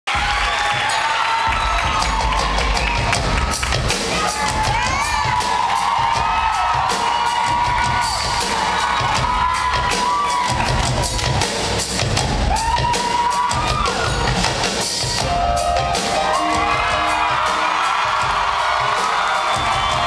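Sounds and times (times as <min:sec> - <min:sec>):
audience cheering and whooping: 0:00.1 - 0:14.6, 0:15.2 - 0:20.0
live band with drums: 0:00.1 - 0:20.0.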